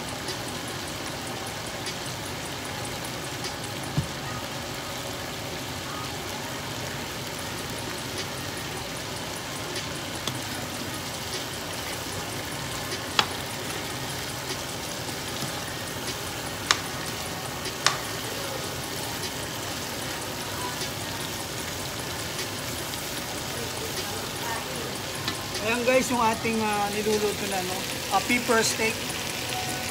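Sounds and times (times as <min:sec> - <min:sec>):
meat sizzling in a skillet: 0:00.1 - 0:29.9.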